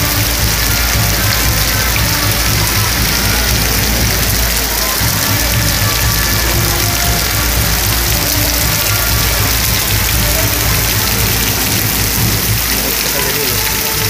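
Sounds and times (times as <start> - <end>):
heavy rain on pavement: 0.0 - 14.0.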